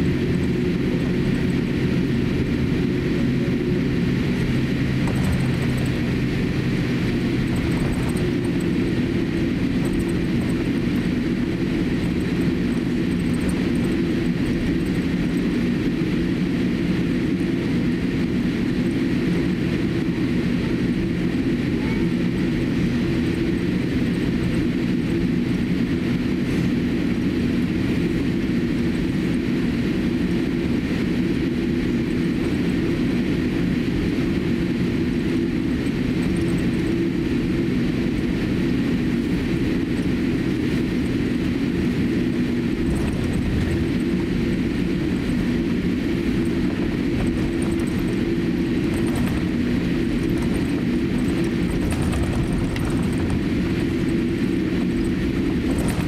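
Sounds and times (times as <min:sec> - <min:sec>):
airplane engines humming: 0:00.0 - 0:56.0
rumble of taxiing roll: 0:00.0 - 0:56.0.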